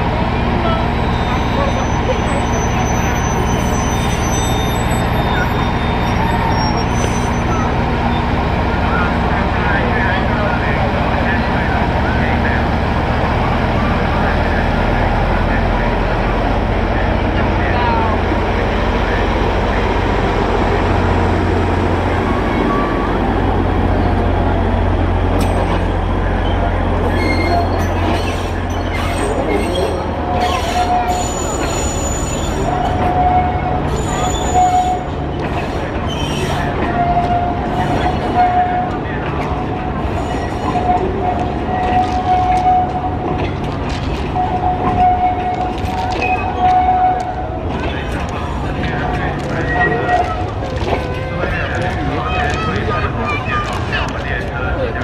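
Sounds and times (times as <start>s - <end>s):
diesel locomotive engine humming: 0.0s - 55.0s
wheels squealing on rail: 0.4s - 10.5s, 11.1s - 54.8s.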